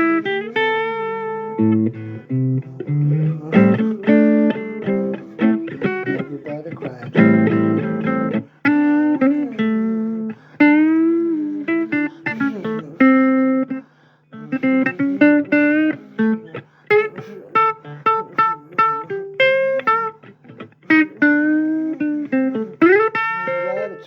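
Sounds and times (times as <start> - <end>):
blues guitar lead: 0.0 - 24.0.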